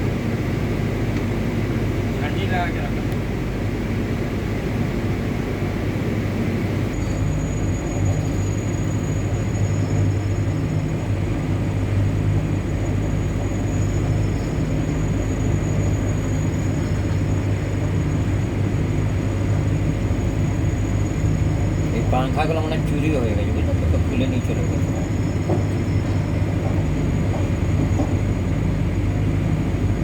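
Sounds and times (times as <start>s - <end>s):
faint high whine: 0.0s - 26.6s
constant hum: 0.0s - 30.0s
locomotive low rumble: 0.0s - 30.0s.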